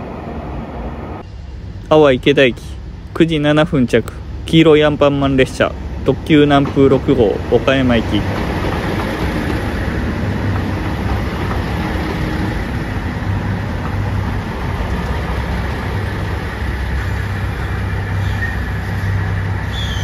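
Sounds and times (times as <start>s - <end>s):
diesel train engines humming: 0.0s - 20.0s.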